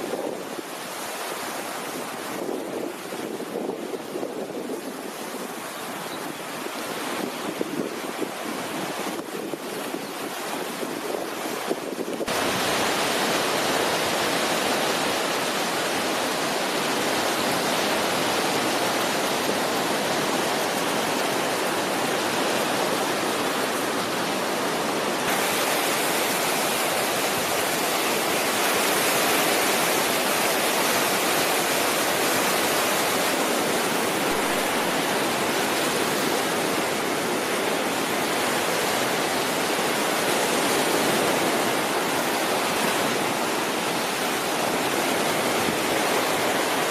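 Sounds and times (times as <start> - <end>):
sea surf rushing: 0.0 - 46.9.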